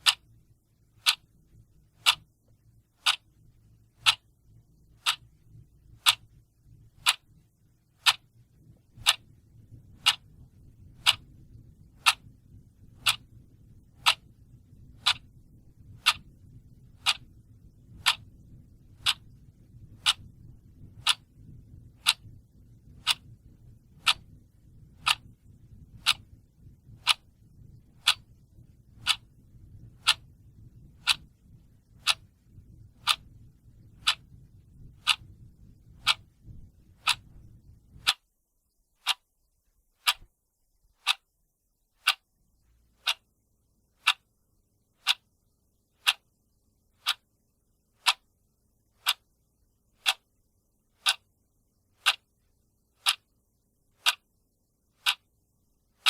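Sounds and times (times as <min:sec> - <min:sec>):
clock ticking: 0:00.0 - 0:38.3, 0:39.0 - 0:39.3, 0:40.0 - 0:40.3, 0:41.0 - 0:41.3, 0:42.0 - 0:43.4, 0:44.0 - 0:44.3, 0:45.0 - 0:45.4, 0:46.0 - 0:46.4, 0:47.0 - 0:47.4, 0:48.0 - 0:50.4, 0:51.0 - 0:51.4, 0:52.0 - 0:52.3, 0:53.0 - 0:53.3, 0:54.0 - 0:54.3, 0:54.9 - 0:55.3
faint low hum: 0:00.0 - 0:56.0.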